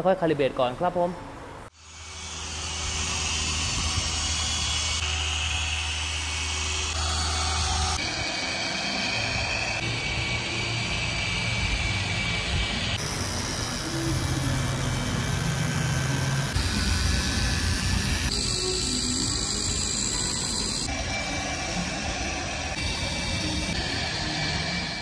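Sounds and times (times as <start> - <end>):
electric polisher running: 1.8 - 25.0.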